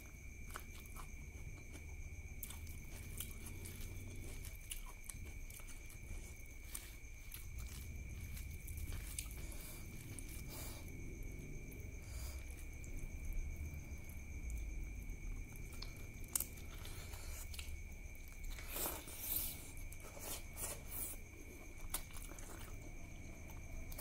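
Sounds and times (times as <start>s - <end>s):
chewing: 0.0s - 24.0s
faint high whine: 0.0s - 24.0s.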